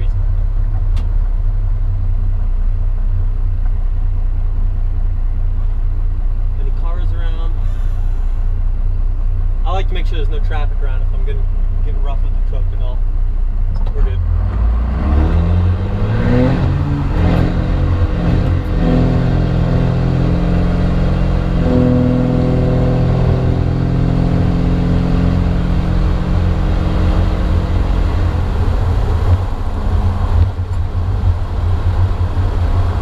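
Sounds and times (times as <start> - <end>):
diesel engine accelerating: 0.0 - 33.0.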